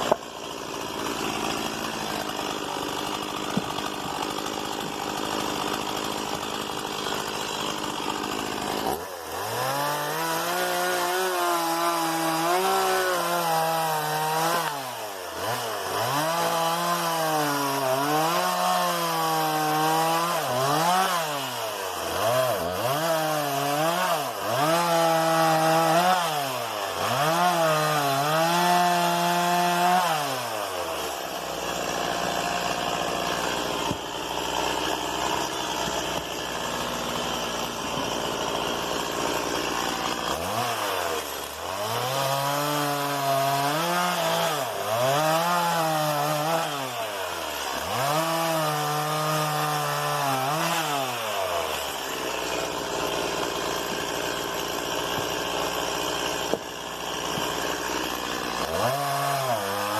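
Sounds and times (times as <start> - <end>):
chainsaw cutting wood: 0.0 - 59.9
chainsaw revving: 0.0 - 59.9.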